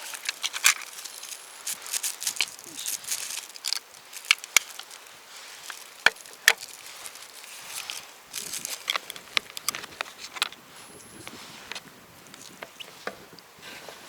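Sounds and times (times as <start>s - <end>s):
light rustling: 0.0s - 14.0s.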